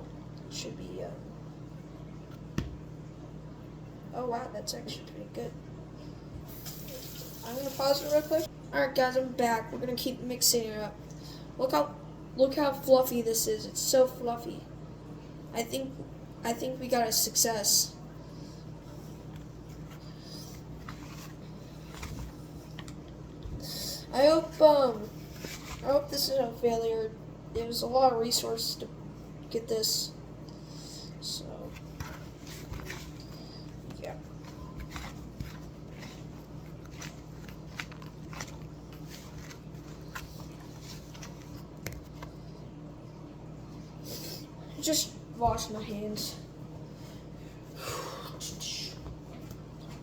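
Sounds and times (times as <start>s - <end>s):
low room hum: 0.0s - 50.0s.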